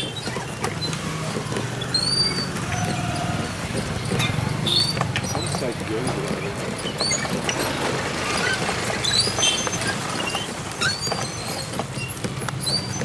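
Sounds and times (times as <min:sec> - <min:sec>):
traffic engine drone: 0:00.0 - 0:13.0.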